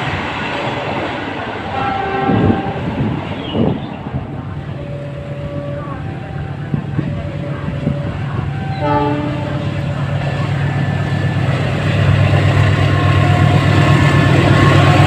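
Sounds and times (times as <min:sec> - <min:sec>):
locomotive engine drone: 0:00.0 - 0:15.0.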